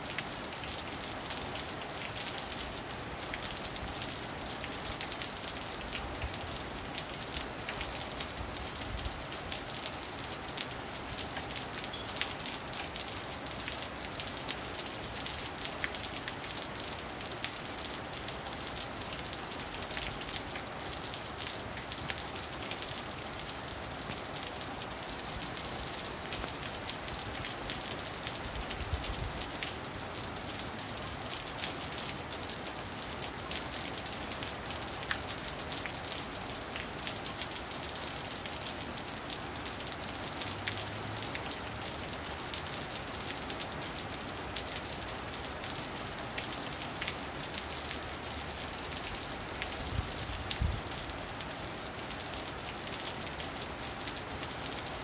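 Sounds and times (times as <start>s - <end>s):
rain on wet pavement: 0.0s - 55.0s.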